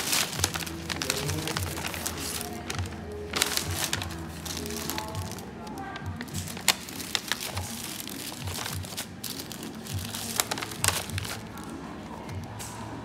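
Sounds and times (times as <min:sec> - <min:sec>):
paper bag crinkling: 0:00.0 - 0:12.6.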